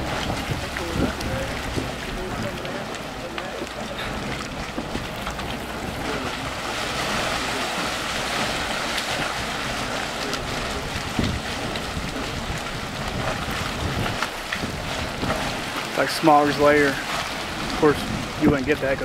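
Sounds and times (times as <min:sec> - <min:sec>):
hot spring water surging: 0:00.0 - 0:19.0.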